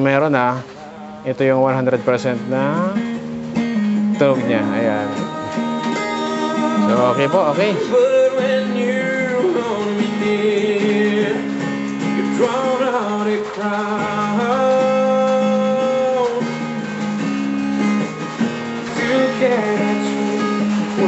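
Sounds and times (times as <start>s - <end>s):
guitar accompaniment: 0.0s - 21.0s
person singing love song: 4.0s - 21.0s.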